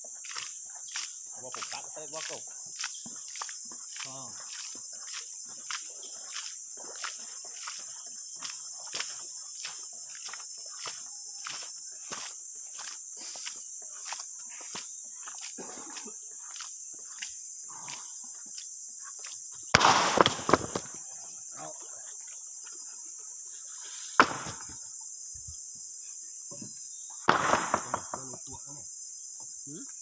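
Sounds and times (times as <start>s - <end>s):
chorus of insects: 0.0s - 30.0s.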